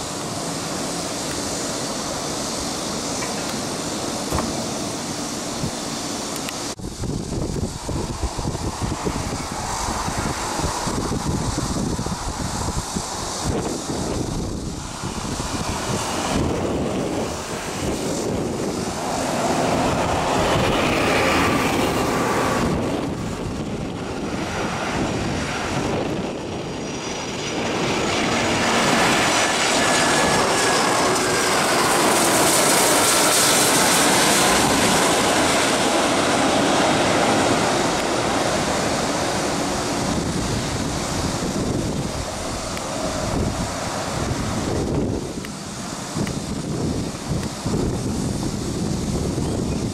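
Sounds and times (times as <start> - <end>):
jet engine rush: 0.0 - 49.9.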